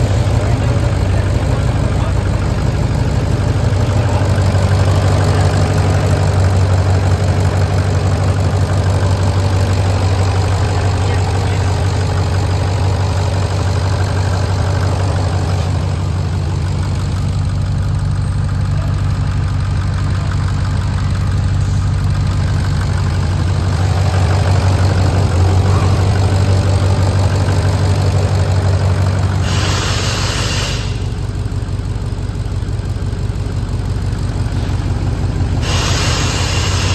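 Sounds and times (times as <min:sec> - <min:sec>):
pickup engine idling: 0:00.0 - 0:36.9.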